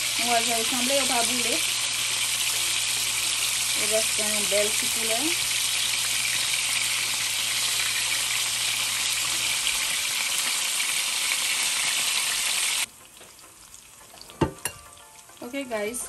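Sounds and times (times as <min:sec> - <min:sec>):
meat sizzling in hot oil: 0:00.0 - 0:16.0.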